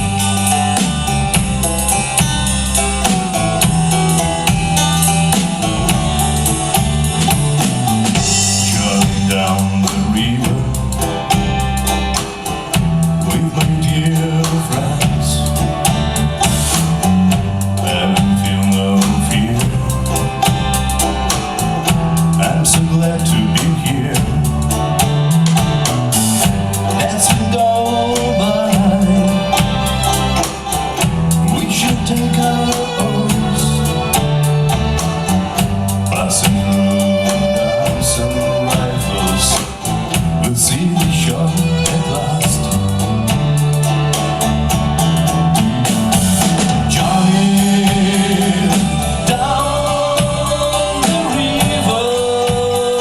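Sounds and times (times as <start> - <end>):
drum kit beat: 0.0 - 53.0
folk band playing live: 0.0 - 53.0.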